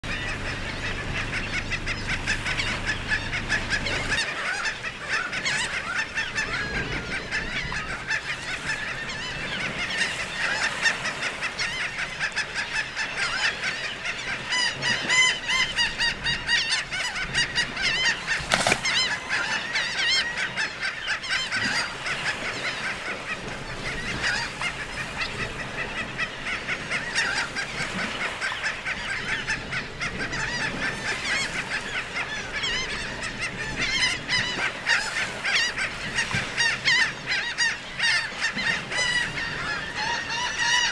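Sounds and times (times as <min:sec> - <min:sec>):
gulls calling: 0:00.0 - 0:40.9.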